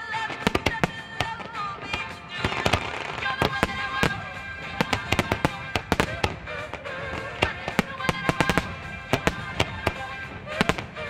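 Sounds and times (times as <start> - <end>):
fireworks bangs and crackles: 0.0 - 11.0
music with held tones: 0.0 - 11.0.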